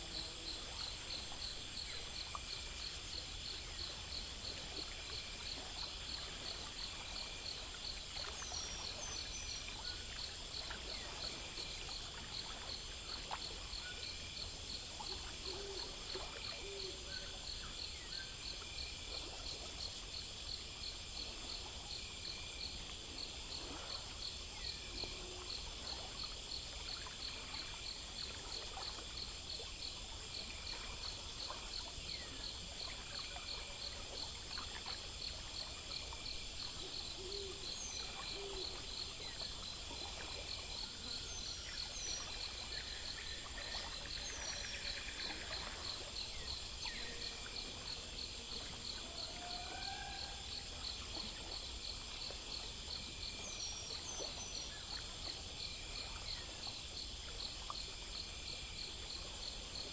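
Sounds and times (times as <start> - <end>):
crickets chirping: 0.0 - 59.9
high-pitched insect trill: 0.0 - 59.9.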